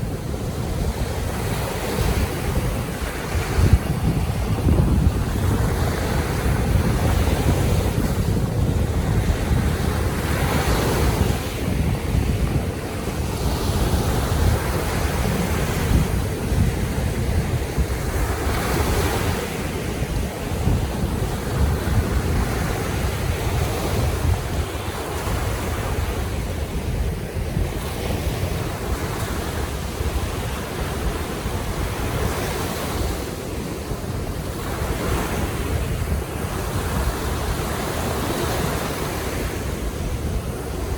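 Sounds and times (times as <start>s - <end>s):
waves washing onto shore: 0.0s - 40.9s
wind rumble on microphone: 0.0s - 40.9s.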